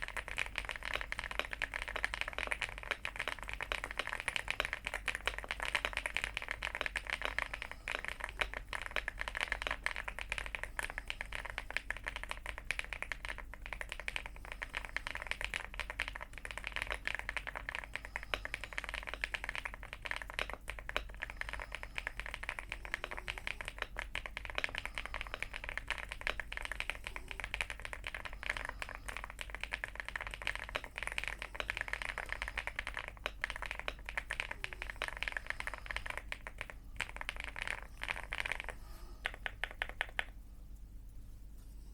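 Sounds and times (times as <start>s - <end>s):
mechanical keyboard typing: 0.0s - 40.4s.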